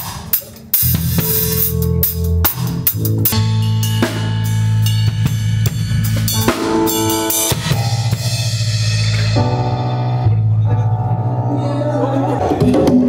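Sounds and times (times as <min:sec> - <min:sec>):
music with drum kit: 0:00.0 - 0:11.0, 0:12.3 - 0:13.0.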